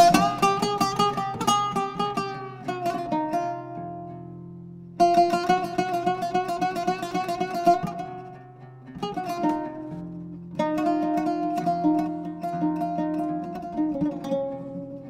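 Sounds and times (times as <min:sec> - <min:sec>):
oud duo playing: 0:00.0 - 0:15.0.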